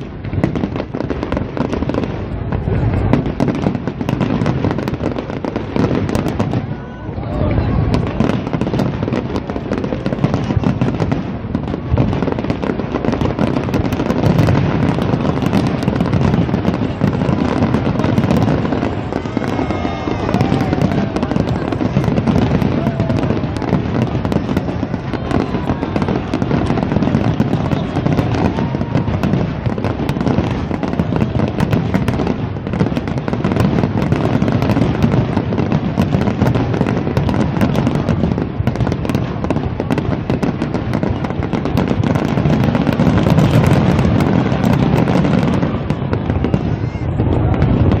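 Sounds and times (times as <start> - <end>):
fireworks bangs and crackle: 0.0 - 48.0.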